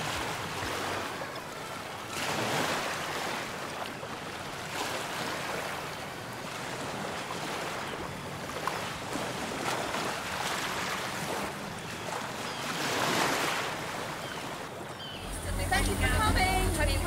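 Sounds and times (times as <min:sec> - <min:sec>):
rushing water: 0:00.0 - 0:17.0
wind: 0:00.0 - 0:17.0.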